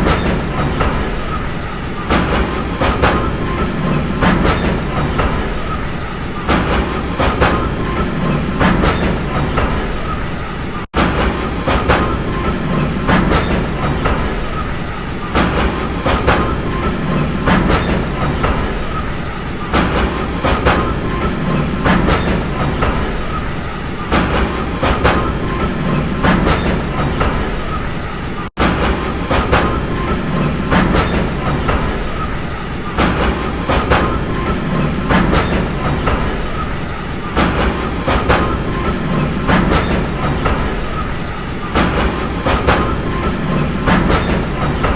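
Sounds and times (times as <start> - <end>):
train rumbling on track: 0.0 - 44.9
wheels clacking over rail joints: 0.0 - 44.9.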